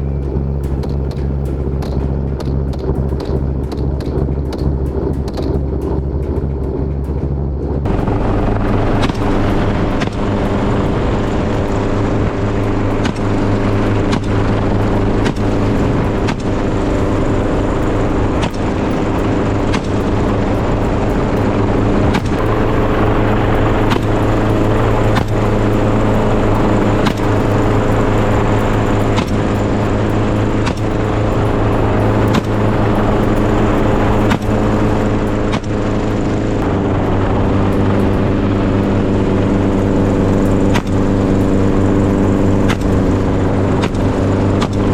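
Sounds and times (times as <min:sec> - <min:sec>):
helicopter rotor drone: 0:00.0 - 0:44.9
sharp cracks: 0:00.3 - 0:44.9.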